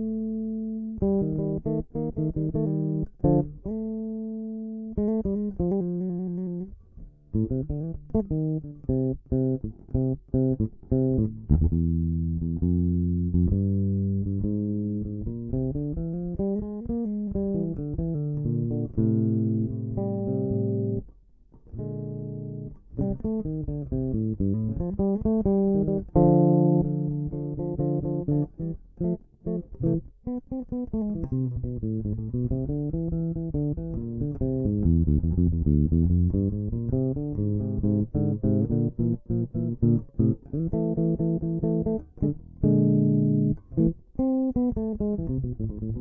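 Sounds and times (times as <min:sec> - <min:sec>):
electric bass guitar blues line: 0:00.0 - 0:46.0.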